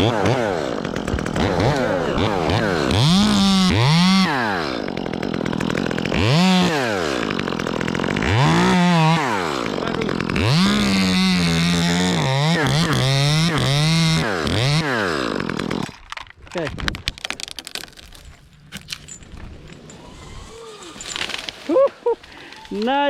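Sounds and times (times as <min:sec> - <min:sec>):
chainsaw revving: 0:00.0 - 0:16.0, 0:18.7 - 0:22.5.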